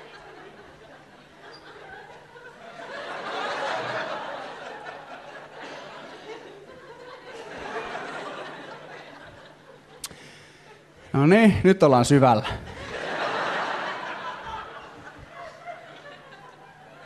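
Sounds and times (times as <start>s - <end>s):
audience laughter: 0.0s - 10.9s, 12.4s - 17.0s.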